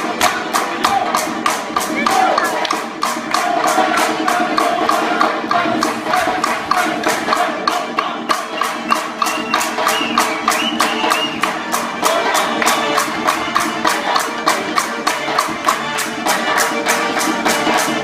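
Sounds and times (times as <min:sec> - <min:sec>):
button accordion melody: 0:00.0 - 0:18.0
drum beat: 0:00.0 - 0:18.0
wooden clappers: 0:00.1 - 0:18.0
hand clapping: 0:00.2 - 0:18.0.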